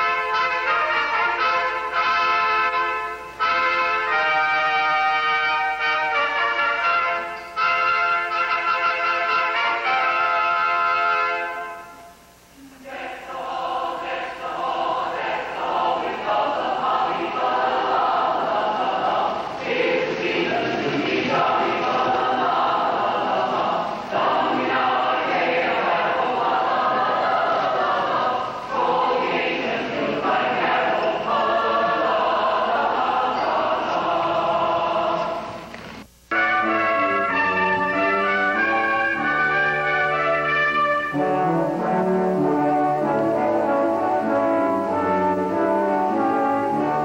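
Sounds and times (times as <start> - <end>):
choir singing: 0.0 - 12.0, 12.6 - 35.7, 36.4 - 47.0.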